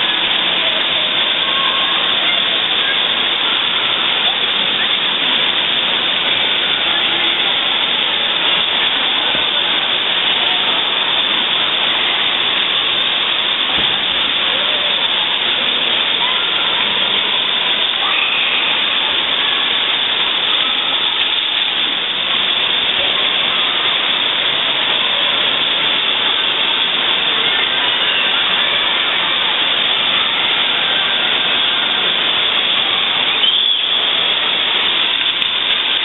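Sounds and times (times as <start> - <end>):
rushing and splashing water: 0.0 - 36.0.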